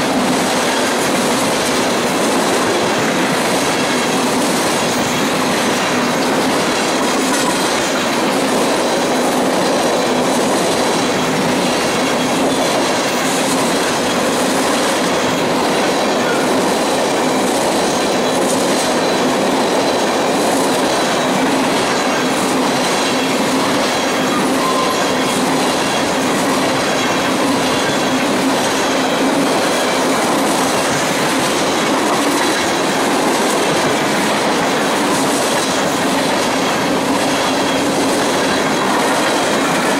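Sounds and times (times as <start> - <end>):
train wheels on rail: 0.0 - 39.9.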